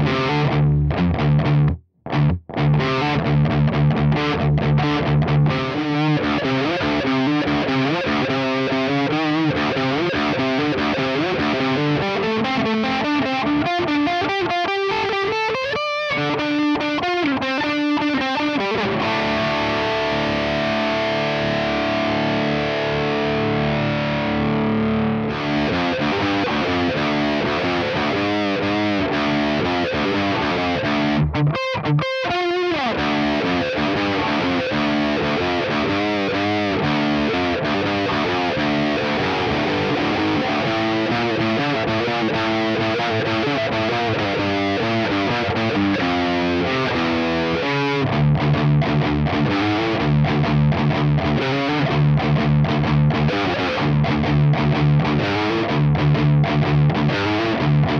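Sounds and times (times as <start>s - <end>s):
distorted electric guitar: 0.0s - 57.9s.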